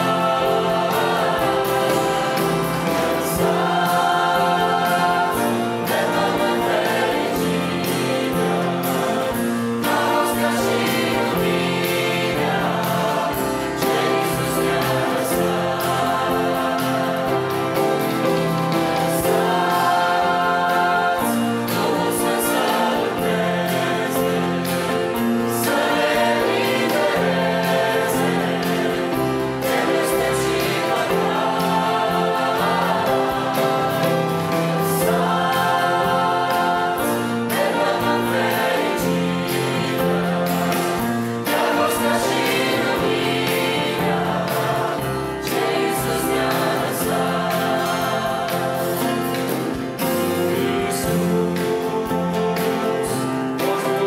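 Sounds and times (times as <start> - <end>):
choir singing a hymn: 0.0 - 54.0
instrumental accompaniment: 0.0 - 54.0.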